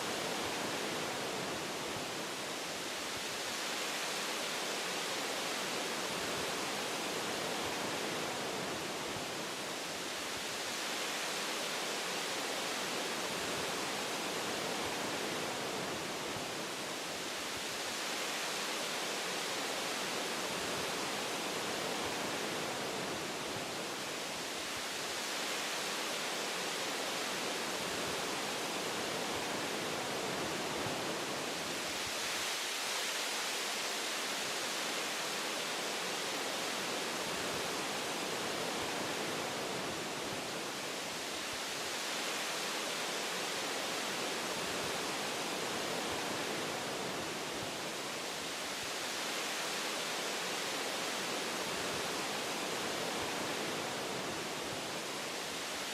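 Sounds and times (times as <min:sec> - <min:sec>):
wind through tree branches: 0:00.0 - 0:55.9.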